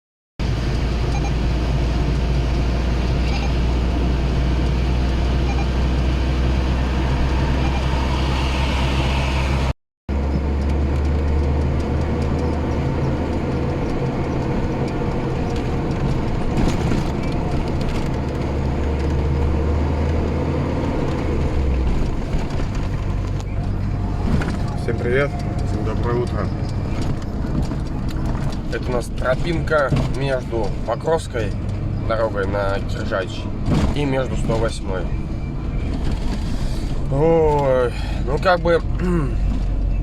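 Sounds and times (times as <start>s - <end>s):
road noise: 0.4s - 40.0s
truck engine drone: 0.4s - 40.0s.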